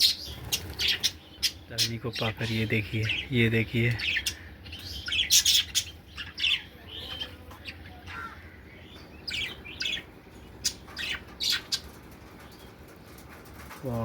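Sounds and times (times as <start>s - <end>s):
budgerigars chirping: 0.0s - 13.4s.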